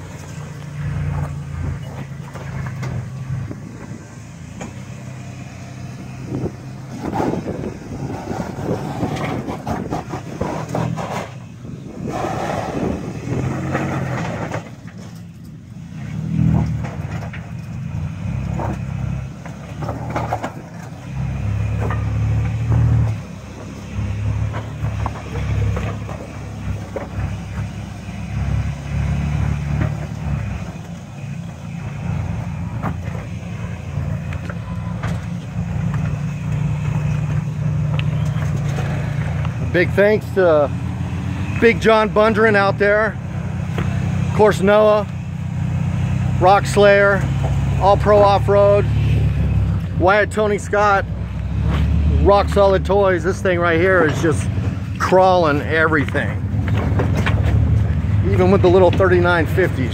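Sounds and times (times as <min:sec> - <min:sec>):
truck engine revving under load: 0:00.0 - 0:59.9.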